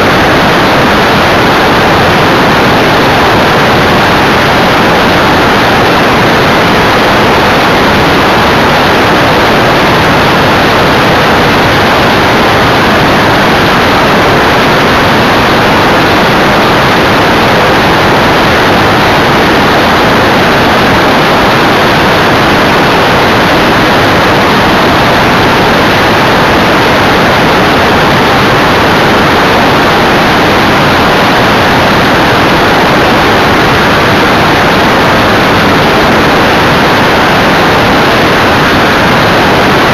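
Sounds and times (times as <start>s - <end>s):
rushing airflow: 0.0s - 39.9s.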